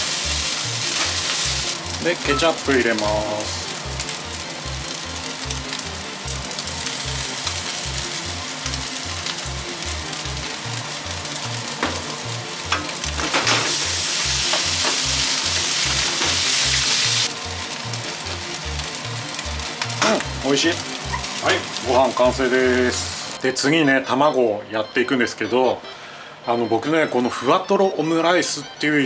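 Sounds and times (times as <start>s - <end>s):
rice sizzling in a wok: 0.0s - 23.4s.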